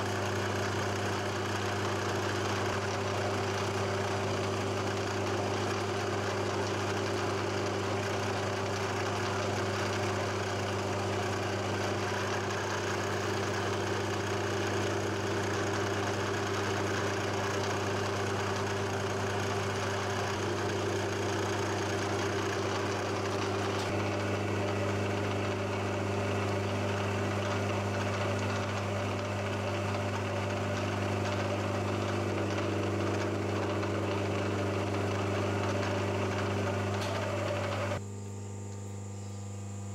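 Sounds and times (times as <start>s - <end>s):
drill bit cutting metal: 0.0s - 38.0s
milling machine motor hum: 0.0s - 38.7s.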